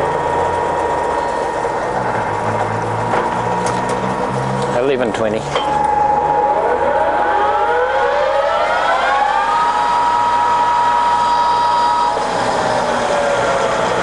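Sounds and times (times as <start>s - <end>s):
lathe spindle high whine: 0.0s - 14.0s.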